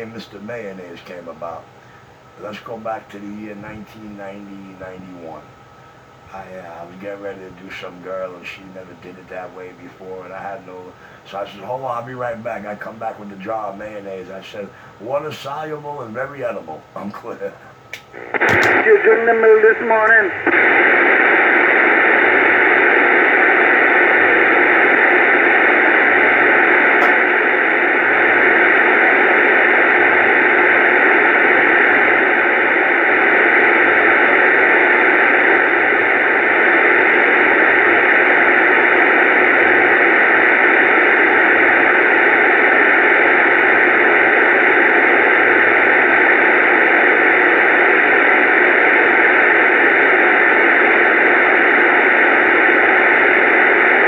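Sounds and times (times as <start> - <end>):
loud static hiss: 0.0 - 54.0.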